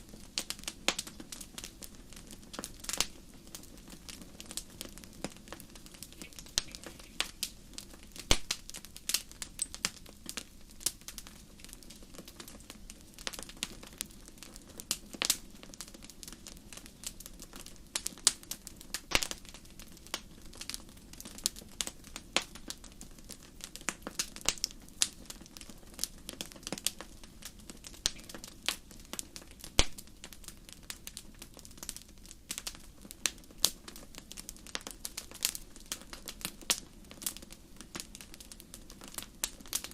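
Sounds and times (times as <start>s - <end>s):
low steady hiss: 0.0s - 39.9s
wood fire crackling and popping: 0.0s - 39.9s.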